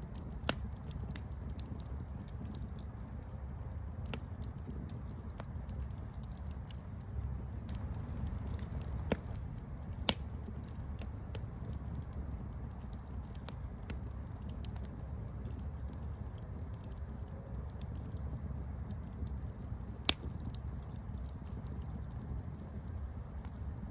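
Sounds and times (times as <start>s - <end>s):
campfire crackling: 0.0s - 23.9s.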